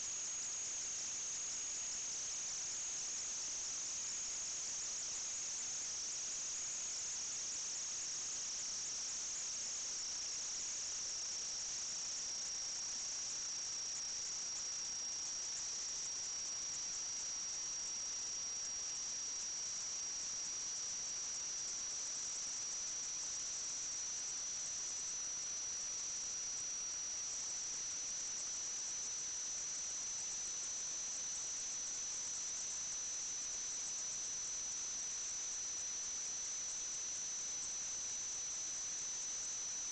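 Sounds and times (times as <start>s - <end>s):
constant hiss: 0.0s - 39.9s
steady high-pitched whine: 0.0s - 39.9s.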